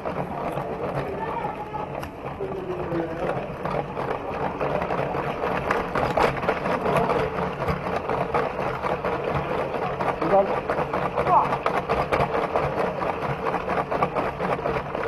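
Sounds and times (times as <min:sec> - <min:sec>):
wheels and gears rattling: 0:00.0 - 0:15.0.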